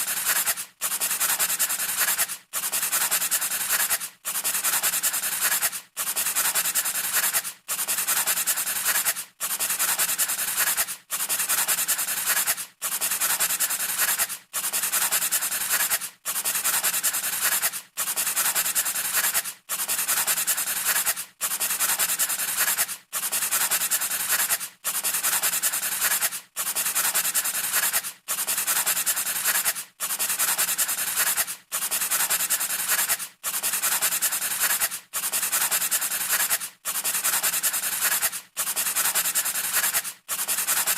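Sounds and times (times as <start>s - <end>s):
pencil scratching on paper: 0.0s - 40.9s.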